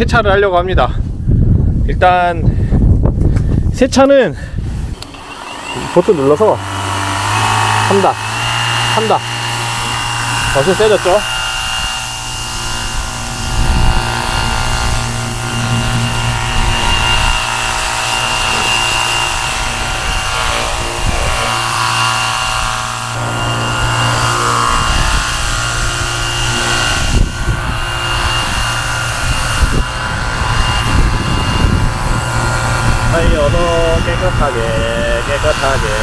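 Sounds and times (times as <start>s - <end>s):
pressure washer motor whine: 4.8s - 36.0s.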